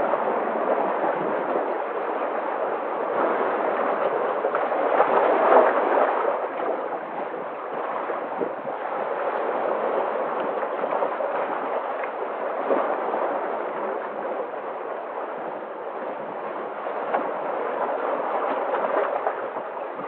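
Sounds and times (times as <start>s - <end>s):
sea waves washing: 0.0s - 20.0s.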